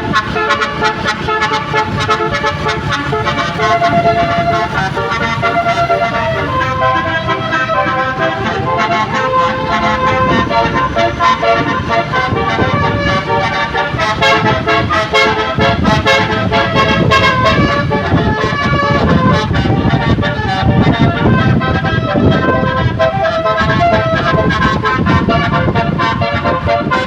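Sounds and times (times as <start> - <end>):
bus and traffic rumble: 0.0 - 27.0
musical horn playing a tune: 0.0 - 27.0.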